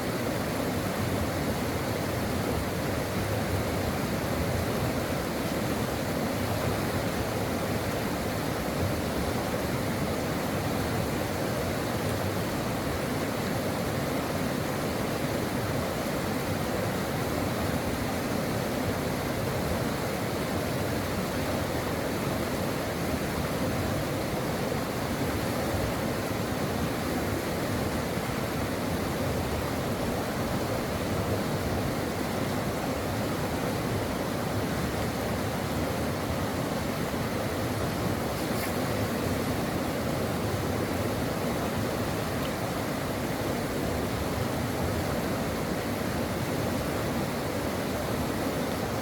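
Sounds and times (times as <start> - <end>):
brook water flowing over rocks: 0.0 - 49.0.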